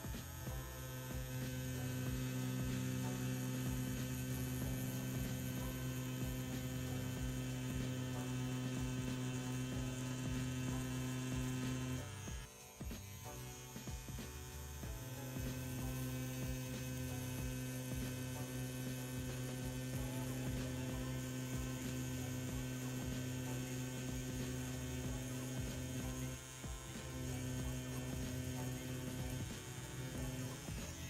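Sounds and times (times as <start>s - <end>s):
tattoo pen motor humming: 0.0s - 31.0s.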